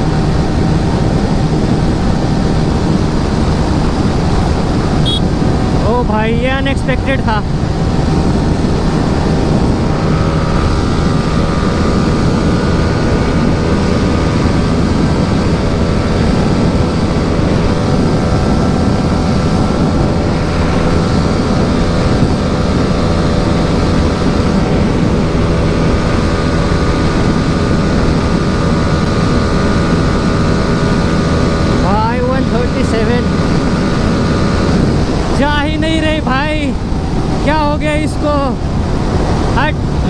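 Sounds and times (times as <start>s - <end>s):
motorcycle engine at high revs: 0.0s - 40.0s
wind rushing over microphone: 0.0s - 40.0s.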